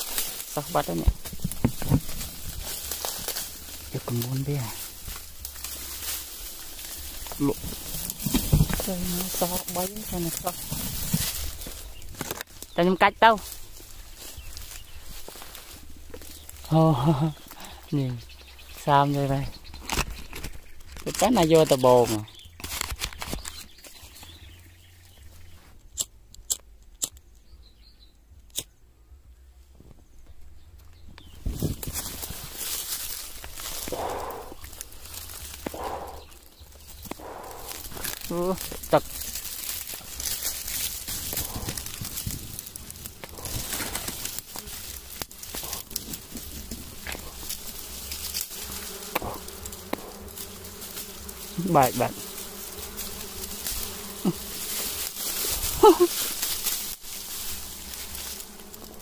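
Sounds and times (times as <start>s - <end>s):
dry twigs snapping: 0.0s - 17.7s, 19.5s - 24.4s, 30.9s - 59.0s
bees buzzing: 0.0s - 22.5s, 31.4s - 59.0s
dry brush rustling: 0.0s - 25.9s, 30.9s - 59.0s.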